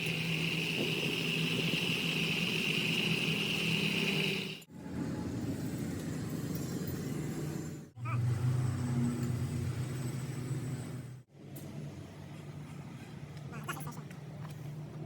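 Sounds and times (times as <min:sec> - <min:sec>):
motor hum and whine: 0:00.0 - 0:15.0.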